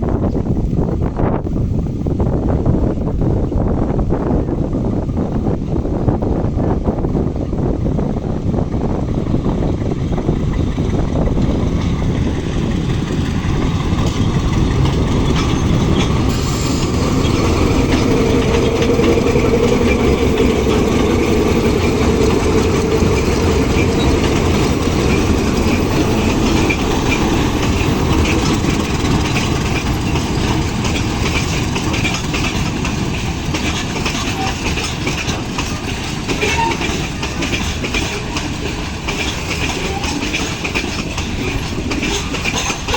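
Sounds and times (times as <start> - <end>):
freight train wheels clicking on rails: 7.3 - 42.9.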